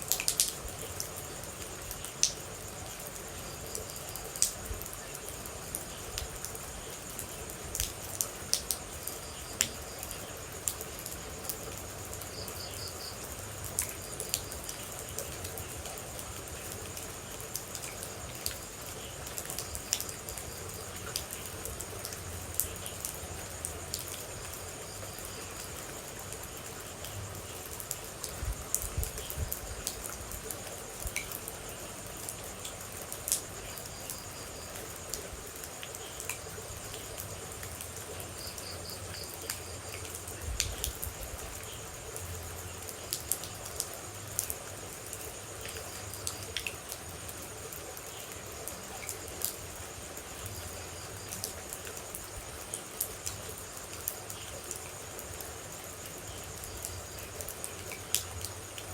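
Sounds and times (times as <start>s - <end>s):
high insect trill: 0.0s - 58.9s
steady rain: 0.0s - 58.9s.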